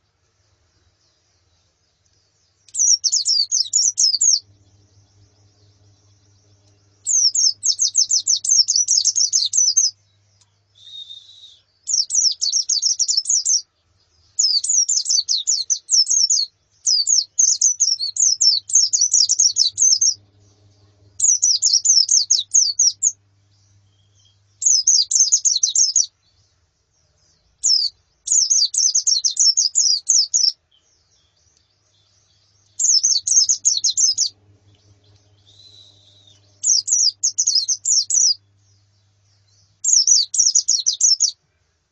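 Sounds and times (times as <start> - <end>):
faint low hum: 0.0 - 41.9
birds chattering trills: 1.0 - 41.9.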